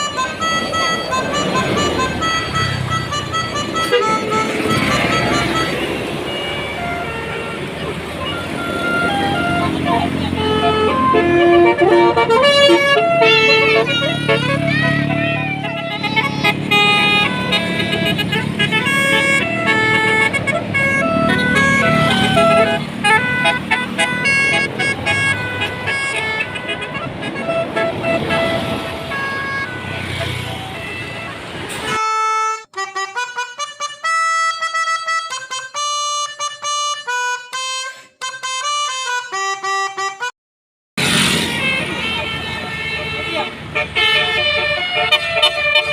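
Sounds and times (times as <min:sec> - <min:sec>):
bus engine humming: 0:00.0 - 0:37.5, 0:41.0 - 0:45.9
multi-tone air horn tune: 0:00.0 - 0:40.3, 0:41.4 - 0:45.9.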